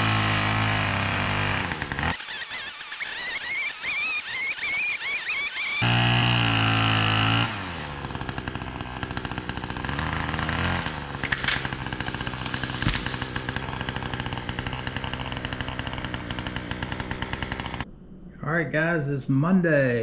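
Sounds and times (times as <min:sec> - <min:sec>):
chainsaw revving and idling: 0:00.0 - 0:17.9.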